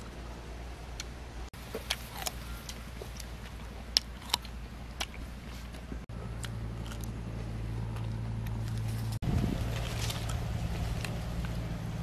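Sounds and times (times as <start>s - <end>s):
crunchy chewing of fruit: 0.0s - 12.0s
steady low hum: 0.0s - 12.0s.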